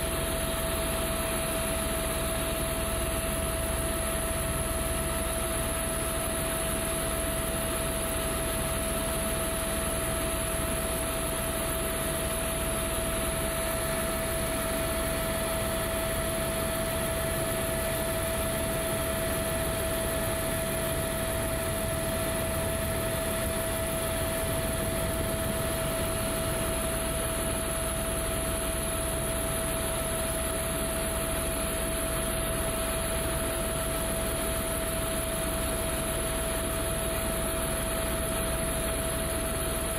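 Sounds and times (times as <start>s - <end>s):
constant whine: 0.0s - 39.9s
helicopter engine and rotor noise: 0.0s - 39.9s.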